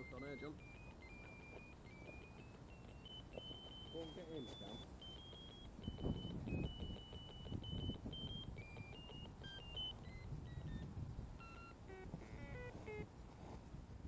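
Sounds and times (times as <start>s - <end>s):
electronic receiver beeping: 0.0s - 13.1s.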